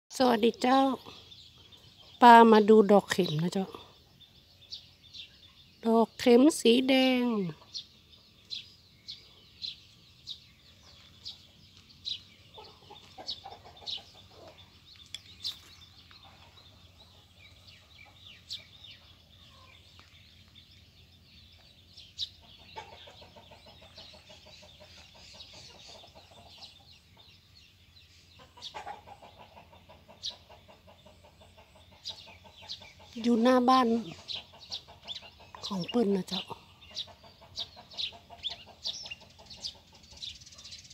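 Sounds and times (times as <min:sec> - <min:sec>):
small birds chirping: 0:00.1 - 0:40.9
chickens clucking: 0:00.3 - 0:40.9.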